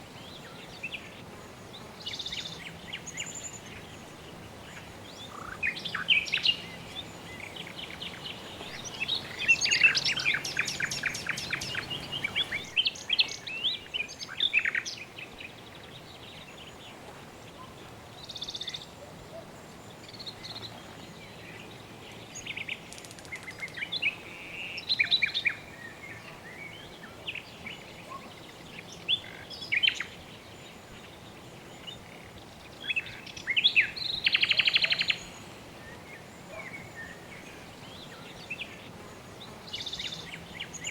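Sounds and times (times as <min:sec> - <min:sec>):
faint steady background hiss: 0:00.0 - 0:40.9
songbirds chirping and trilling: 0:00.0 - 0:40.9.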